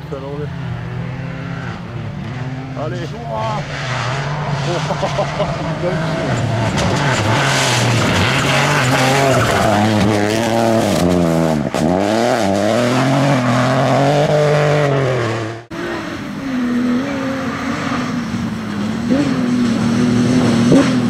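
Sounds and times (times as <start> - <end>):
quieter car engine wavering: 0.0 - 21.0
rally car engine revving: 0.0 - 21.0.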